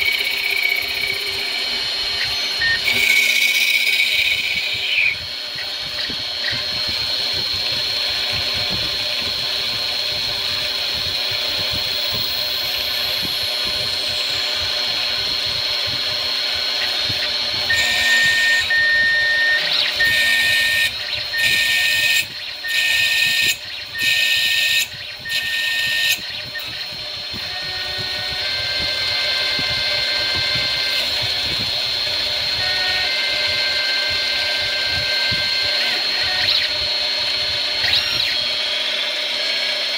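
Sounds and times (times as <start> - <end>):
lathe motor whine: 0.0 - 39.9
tool cutting spinning metal: 0.0 - 39.9.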